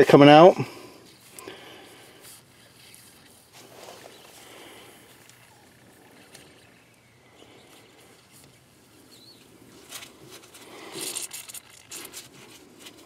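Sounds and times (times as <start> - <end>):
air and oil sputtering: 1.0 - 13.0.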